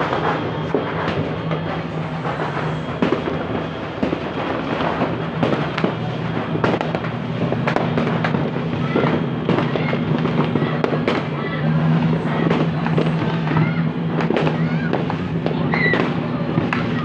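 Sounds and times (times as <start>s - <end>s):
firecrackers crackling: 0.0s - 17.0s
fireworks sharp bangs: 0.0s - 17.0s.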